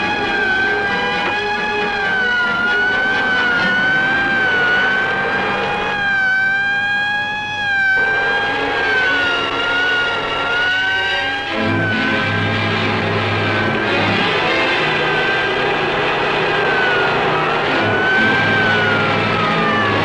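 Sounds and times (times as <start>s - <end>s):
car engine and road noise: 0.0s - 20.0s
police siren wailing: 0.0s - 20.0s.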